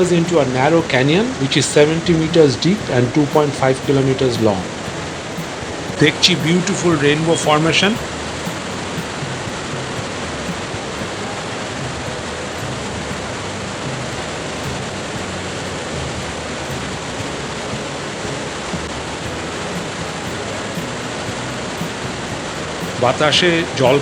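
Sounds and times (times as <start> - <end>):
waterfall crashing: 0.0 - 24.0.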